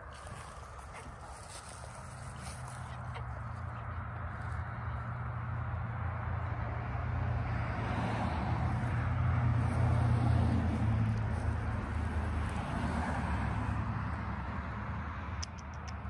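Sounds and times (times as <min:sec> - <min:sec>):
passing road vehicle rumble: 0:00.0 - 0:16.0.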